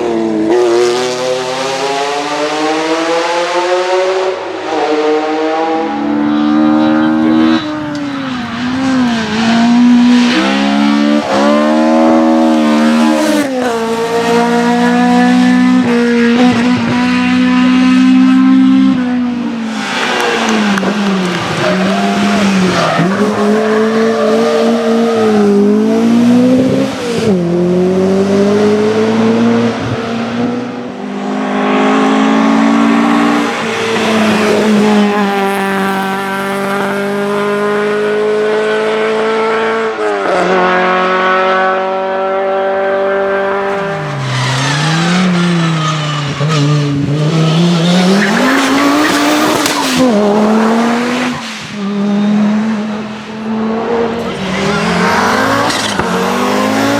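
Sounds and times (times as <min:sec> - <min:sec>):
rally car engines at full throttle: 0:00.0 - 0:56.9.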